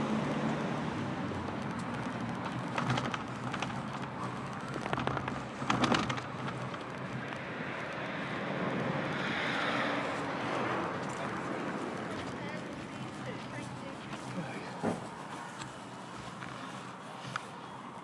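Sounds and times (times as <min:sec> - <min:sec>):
low steady engine hum: 0:00.0 - 0:18.0
road traffic: 0:00.0 - 0:18.0.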